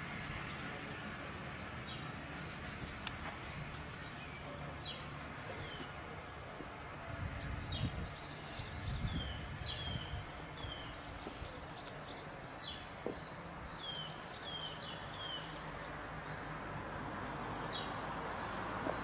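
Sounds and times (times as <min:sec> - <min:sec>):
songbirds calling: 0:00.0 - 0:19.0.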